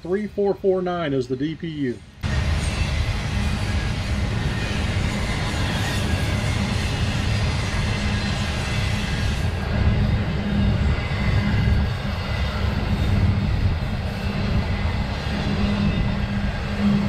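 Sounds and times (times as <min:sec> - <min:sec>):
diesel locomotive rumble: 0:00.0 - 0:17.0
train wheels rolling on rails: 0:02.2 - 0:17.0.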